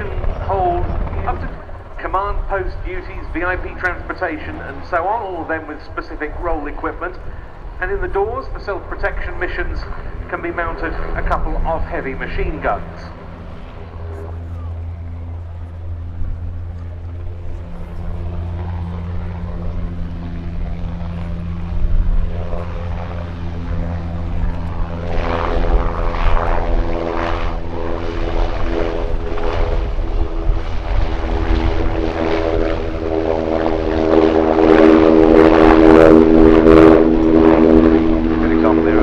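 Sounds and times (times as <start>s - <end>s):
helicopter rotors and turbines: 0.0s - 39.0s.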